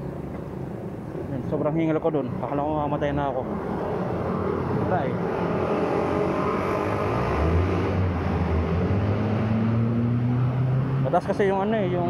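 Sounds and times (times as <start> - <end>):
road noise rushing: 0.0 - 12.0.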